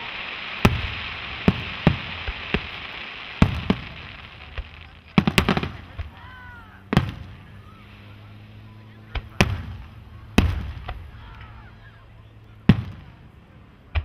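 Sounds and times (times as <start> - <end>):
fireworks bursting: 0.0 - 14.0.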